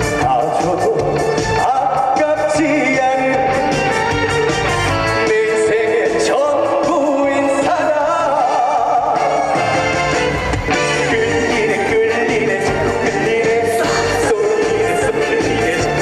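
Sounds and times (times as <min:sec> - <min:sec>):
man singing: 0:00.0 - 0:10.0, 0:10.7 - 0:16.0
live band music: 0:00.0 - 0:16.0.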